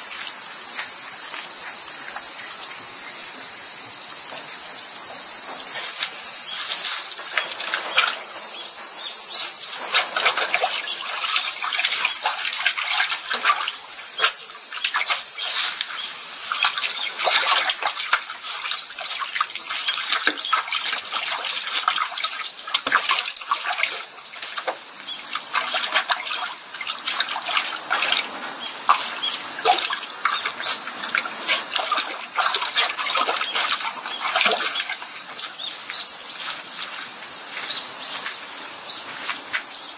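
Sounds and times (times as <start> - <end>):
insects chirring: 0.0 - 39.9
water splashing and trickling: 4.4 - 39.9.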